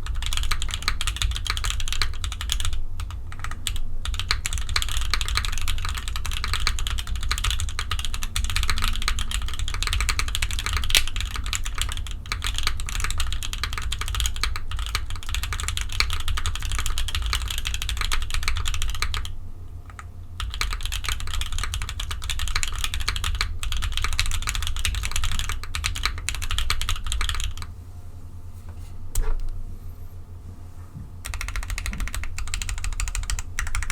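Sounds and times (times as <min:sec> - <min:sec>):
fast typing on mechanical keyboard: 0:00.0 - 0:19.3, 0:19.9 - 0:27.7, 0:31.2 - 0:33.9.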